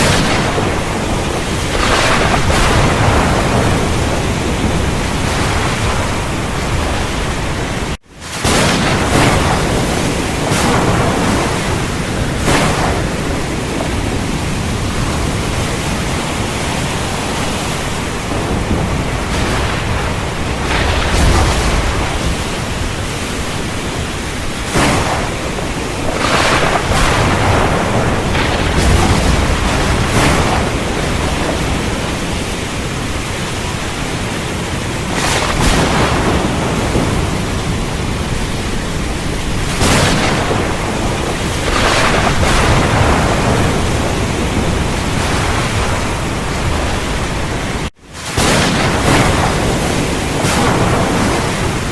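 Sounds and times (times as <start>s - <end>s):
heavy rain falling: 0.0s - 51.9s
low rolling thunder: 0.0s - 51.9s
thunder cracks: 0.0s - 51.9s.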